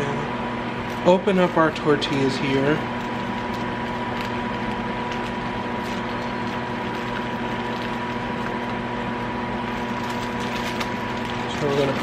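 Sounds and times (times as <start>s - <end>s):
mechanical hum with high whine: 0.0s - 12.0s.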